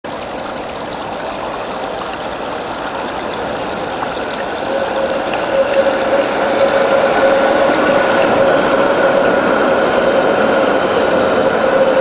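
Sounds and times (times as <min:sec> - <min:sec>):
water running over stone edges: 0:00.0 - 0:10.0
tram whine: 0:00.1 - 0:12.0.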